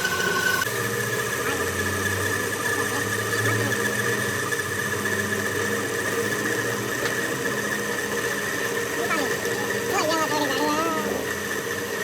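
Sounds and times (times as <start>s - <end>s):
workshop machine humming and whining: 0.0s - 12.0s.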